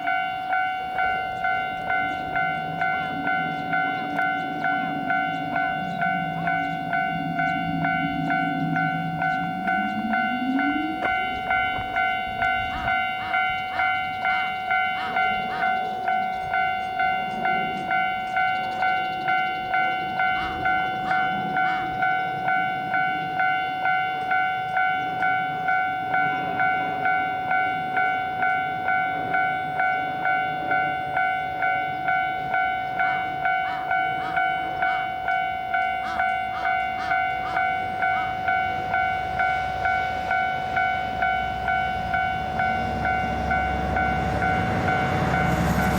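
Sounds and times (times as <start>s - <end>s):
diesel train rumbling: 0.0s - 45.9s
level crossing warning bell: 0.0s - 45.9s
wheels clicking over rail joints: 0.0s - 45.9s.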